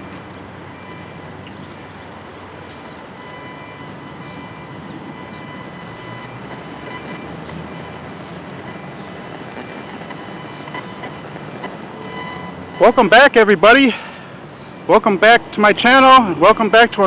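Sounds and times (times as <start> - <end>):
rumbling vehicle noise: 0.0 - 17.0.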